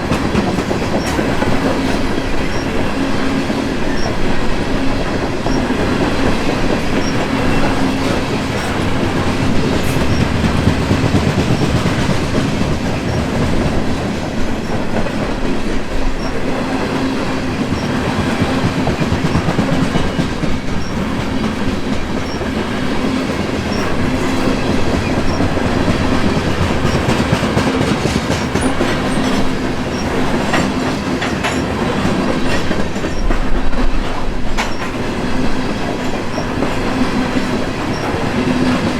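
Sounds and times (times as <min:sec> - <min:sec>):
train wheels rumbling on rails: 0:00.0 - 0:38.9
wheels clacking over rail joints: 0:00.0 - 0:38.9.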